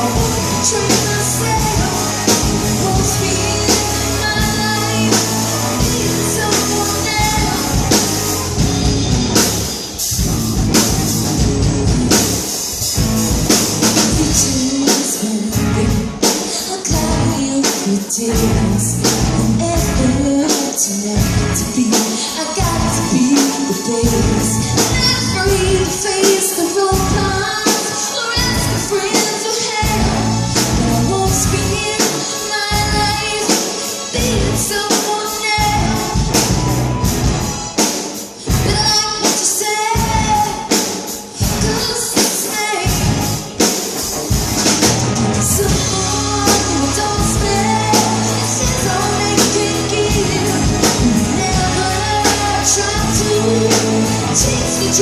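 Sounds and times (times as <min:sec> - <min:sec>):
woman singing: 0:00.0 - 0:08.6, 0:13.9 - 0:37.0, 0:38.3 - 0:43.1, 0:45.3 - 0:55.0
live band playing pop-country: 0:00.0 - 0:55.0
steady drum beat: 0:00.0 - 0:55.0.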